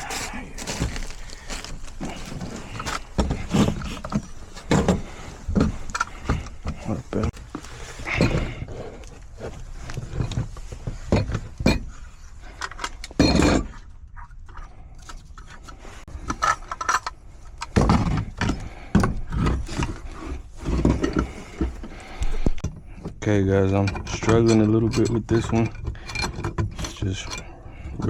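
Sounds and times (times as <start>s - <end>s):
wrench clanking and scraping on metal: 0.8s - 28.0s.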